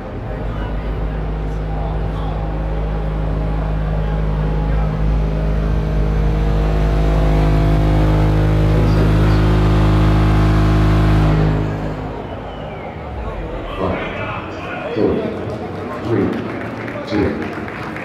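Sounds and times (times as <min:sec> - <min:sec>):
subwoofers playing deep bass tone: 0:00.0 - 0:15.7.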